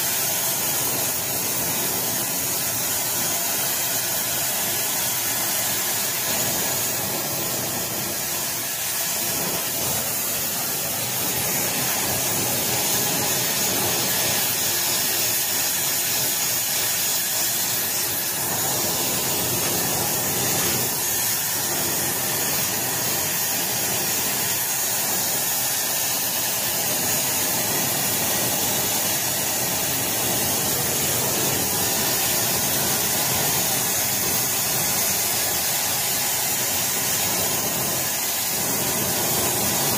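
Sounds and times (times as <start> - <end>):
oxy-fuel torch hissing: 0.0 - 39.9.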